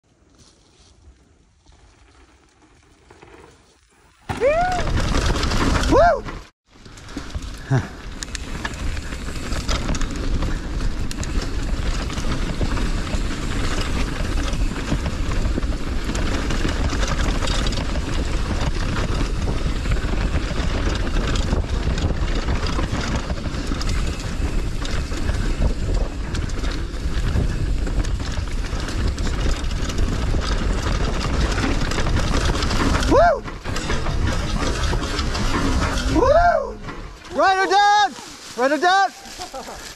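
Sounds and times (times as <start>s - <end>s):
low tyre rumble: 0.5s - 37.5s
bike rattling clicks and knocks: 1.8s - 39.9s.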